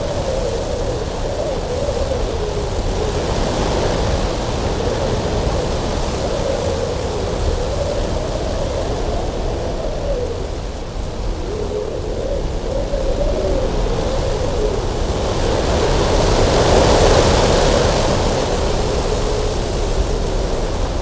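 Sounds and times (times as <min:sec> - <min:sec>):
howling wind whistle: 0:00.0 - 0:21.0
wind blowing: 0:00.0 - 0:21.0.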